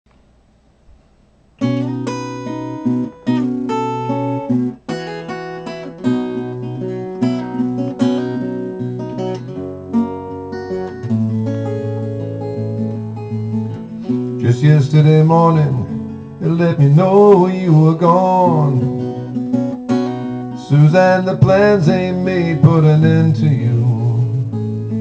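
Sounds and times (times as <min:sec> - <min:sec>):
acoustic guitar chords: 0:00.9 - 0:25.0.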